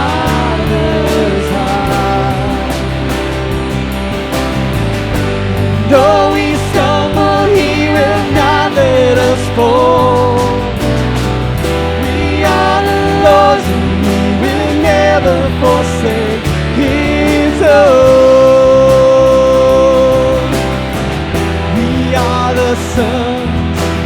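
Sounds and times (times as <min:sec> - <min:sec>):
person singing: 0:00.0 - 0:03.4, 0:05.8 - 0:11.0, 0:11.9 - 0:20.9, 0:21.6 - 0:24.0
worship band playing: 0:00.0 - 0:24.0.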